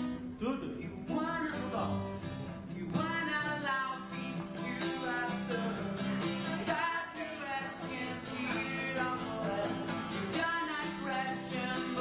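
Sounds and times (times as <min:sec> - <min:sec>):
acoustic guitar: 0:00.0 - 0:12.0
person singing: 0:00.4 - 0:12.0.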